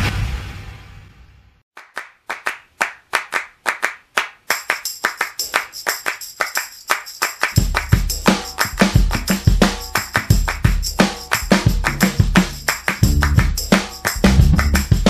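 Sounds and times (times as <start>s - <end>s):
hands clapping in rhythm: 1.8s - 15.0s.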